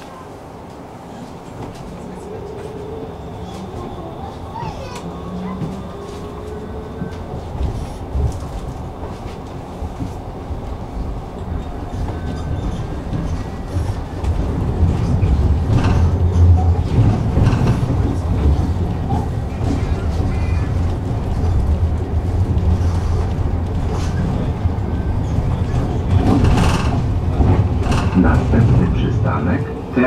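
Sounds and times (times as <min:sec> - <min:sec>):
tram rumble: 0:00.0 - 0:30.0
wheels clattering on rail: 0:00.0 - 0:30.0.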